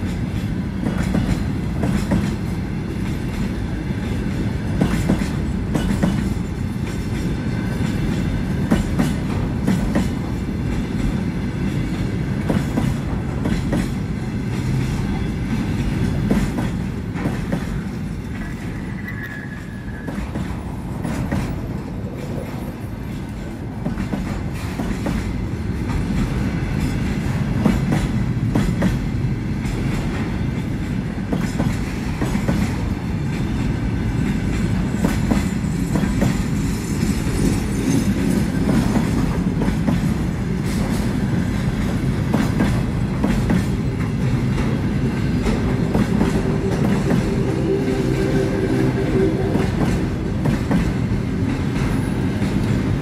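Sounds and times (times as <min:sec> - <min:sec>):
freight train rumbling past: 0:00.0 - 0:53.0
wheels clacking over rail joints: 0:00.0 - 0:53.0.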